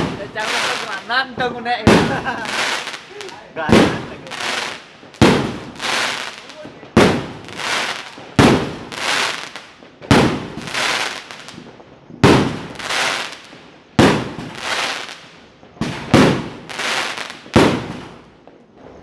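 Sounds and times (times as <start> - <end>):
fireworks banging: 0.0 - 19.0
noisy firework bursts: 0.0 - 19.0.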